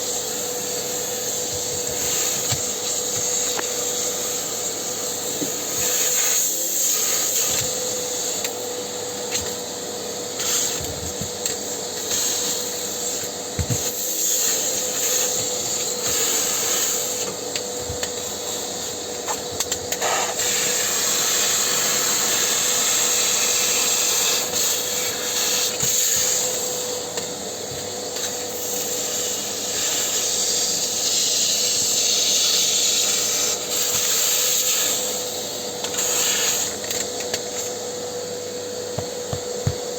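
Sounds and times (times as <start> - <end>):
vacuum cleaner humming: 0.0 - 39.9.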